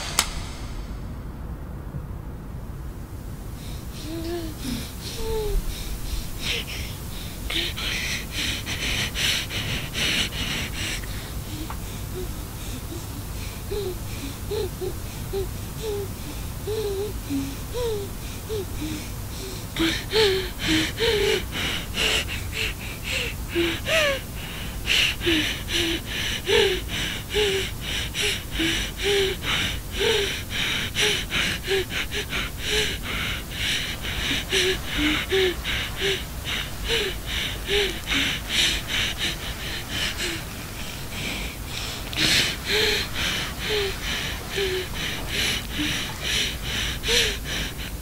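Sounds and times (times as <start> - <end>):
person breathing hard and gasping: 0.0 - 1.1, 3.5 - 48.0.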